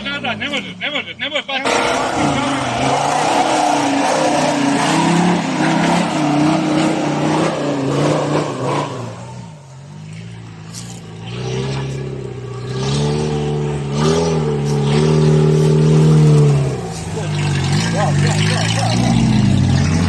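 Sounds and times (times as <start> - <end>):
engine revving under load: 1.6 - 20.0.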